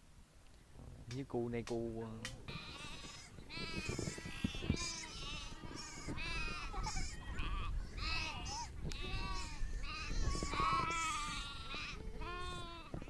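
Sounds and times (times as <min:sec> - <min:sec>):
sheep bleating: 0:02.5 - 0:13.0.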